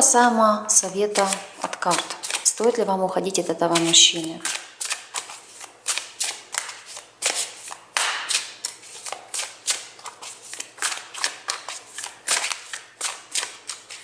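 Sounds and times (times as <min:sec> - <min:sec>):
cards being shuffled: 0:00.8 - 0:02.8, 0:03.7 - 0:14.0.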